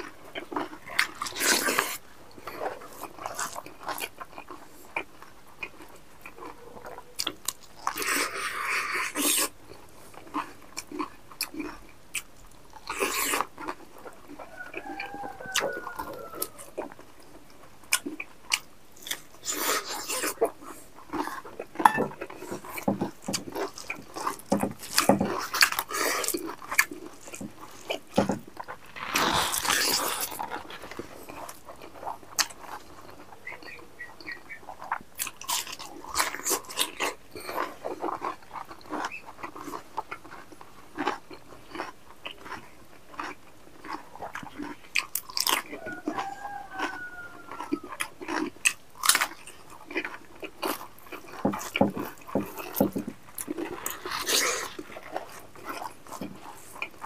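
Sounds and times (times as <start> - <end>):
man chewing food: 0.0 - 57.0.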